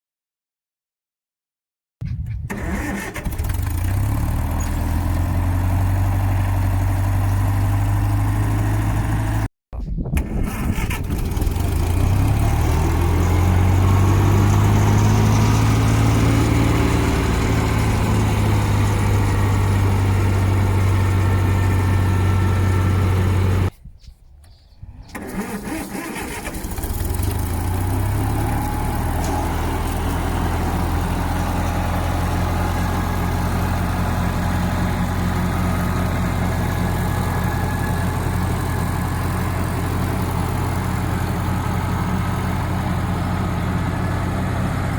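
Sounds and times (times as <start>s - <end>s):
tractor engine running: 2.2s - 9.5s, 10.2s - 23.7s, 25.0s - 44.9s.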